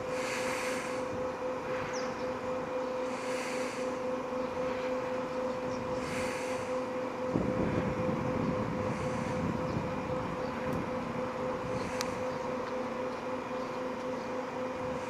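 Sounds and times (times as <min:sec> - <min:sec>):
ship engine hum: 0:00.0 - 0:15.0.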